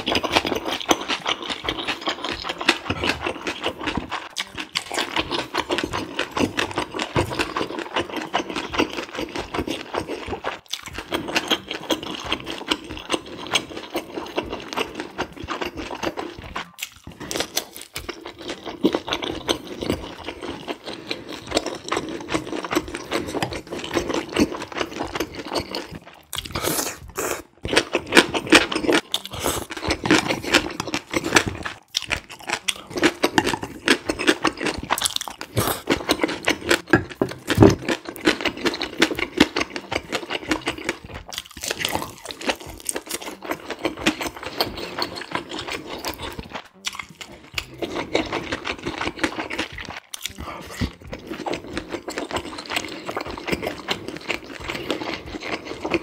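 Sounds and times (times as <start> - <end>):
chewing and wet mouth-smacking: 0.0 - 56.0.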